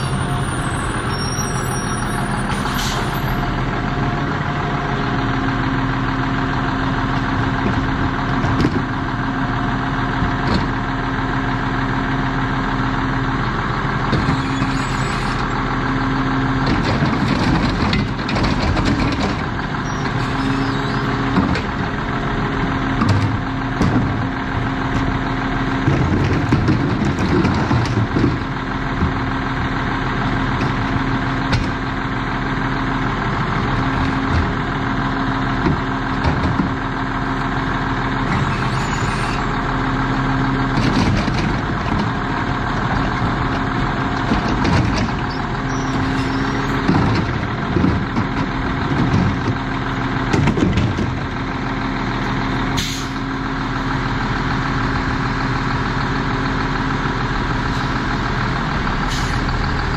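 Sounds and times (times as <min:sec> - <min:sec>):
garbage truck idling: 0:00.0 - 0:59.9.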